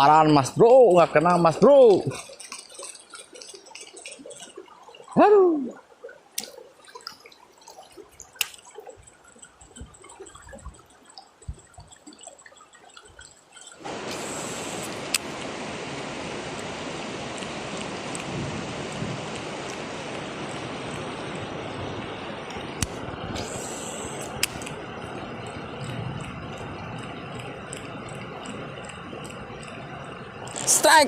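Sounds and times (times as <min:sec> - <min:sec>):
fast-flowing river water: 0:00.0 - 0:31.0.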